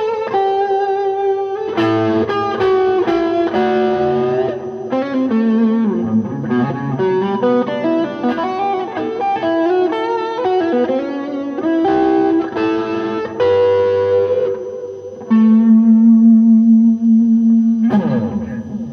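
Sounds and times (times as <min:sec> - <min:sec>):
overdriven electric guitar: 0:00.0 - 0:18.9.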